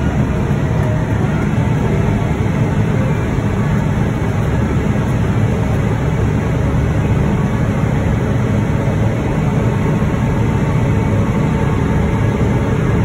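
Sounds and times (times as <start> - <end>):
harvester machine drone: 0.0 - 13.0.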